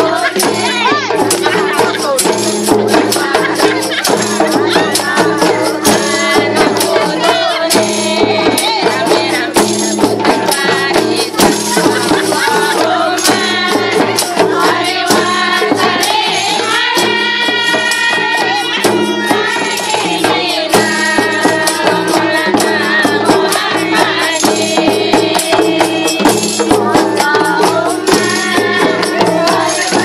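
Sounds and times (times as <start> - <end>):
frame drums: 0.0 - 30.0
tambourines jingling: 0.0 - 30.0
women singing together: 0.0 - 30.0.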